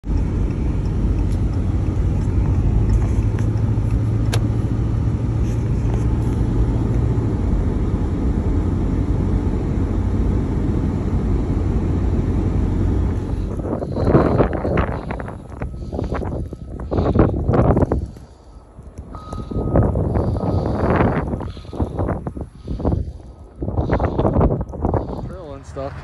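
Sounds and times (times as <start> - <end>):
low hum: 0.0 - 26.0
truck engine and road rumble: 0.0 - 26.0.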